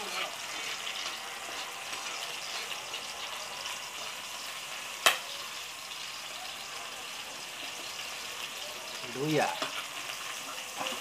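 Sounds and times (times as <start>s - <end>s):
garlic and chili sizzling in a wok: 0.0s - 11.0s.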